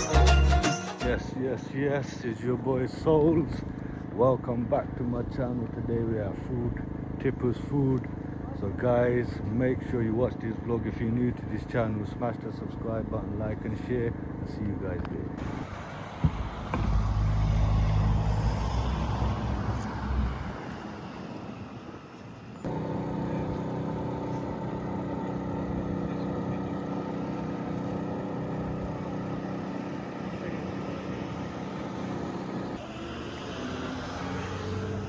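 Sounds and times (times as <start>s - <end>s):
engine rumbling: 0.0s - 35.0s.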